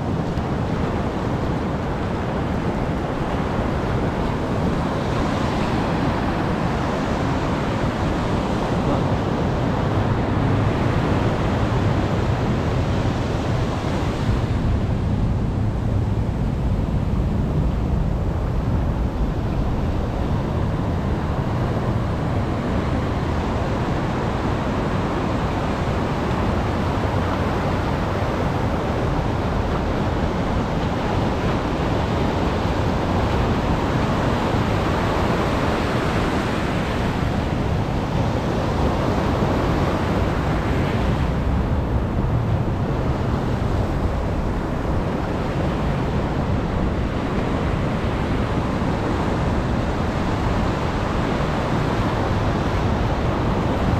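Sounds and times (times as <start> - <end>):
heavy surf breaking on shore: 0.0 - 53.9
wind rumbling on microphone: 0.0 - 53.9.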